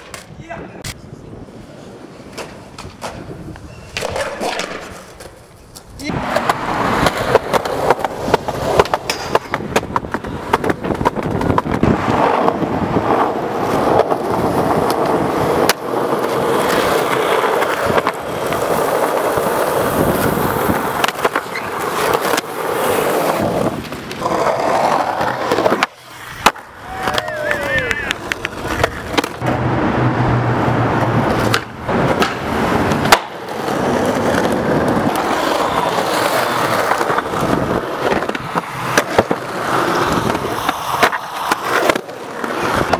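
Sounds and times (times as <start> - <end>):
skateboard clacks: 0.0 - 1.0, 2.2 - 29.6, 30.9 - 42.9
skateboard wheels rumbling: 1.0 - 42.9.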